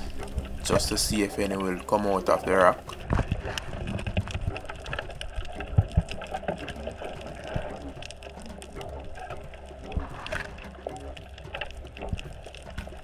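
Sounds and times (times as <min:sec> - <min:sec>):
low rumble of water movement: 0:00.0 - 0:13.0
underwater crackling clicks: 0:00.0 - 0:13.0.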